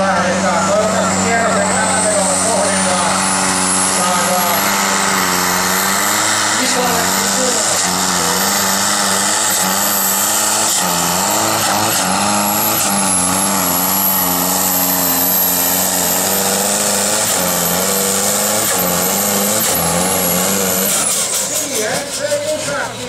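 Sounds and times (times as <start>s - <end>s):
tractor diesel engine at full load: 0.0s - 23.0s.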